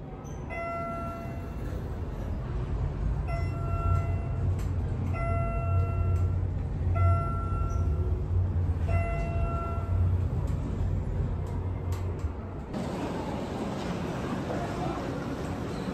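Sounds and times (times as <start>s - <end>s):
train low rumble: 0.0s - 15.9s.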